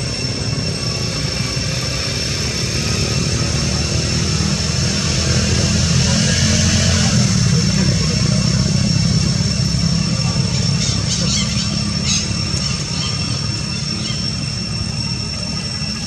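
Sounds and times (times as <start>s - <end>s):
low machine hum: 0.0s - 16.0s
thin high whine: 0.0s - 16.0s.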